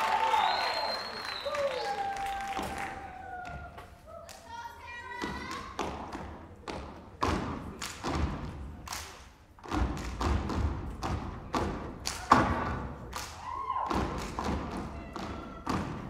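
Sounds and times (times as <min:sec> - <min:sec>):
stomps and claps in unison: 0:00.0 - 0:04.4, 0:05.2 - 0:16.0.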